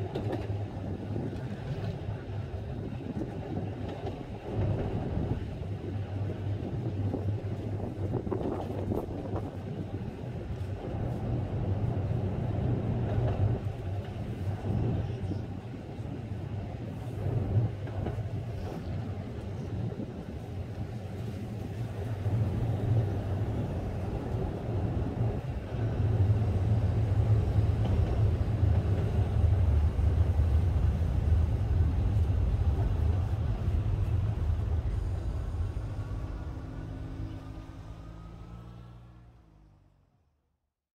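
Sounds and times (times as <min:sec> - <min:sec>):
wind buffeting microphone: 0:00.0 - 0:38.0
tram running noise: 0:00.0 - 0:40.0.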